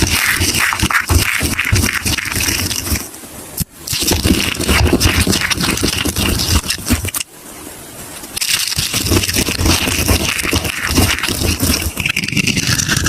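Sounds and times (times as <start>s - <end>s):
dry soap crunching: 0.0s - 3.1s, 3.9s - 7.2s, 8.4s - 13.0s.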